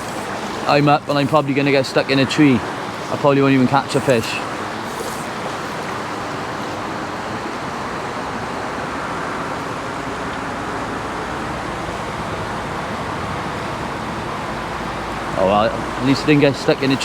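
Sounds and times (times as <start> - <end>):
shallow stream water rushing: 0.0 - 17.0.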